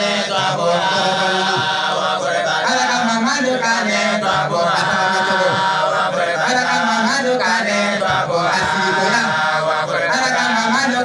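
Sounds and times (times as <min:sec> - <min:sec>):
man chanting into microphone: 0:00.0 - 0:11.0.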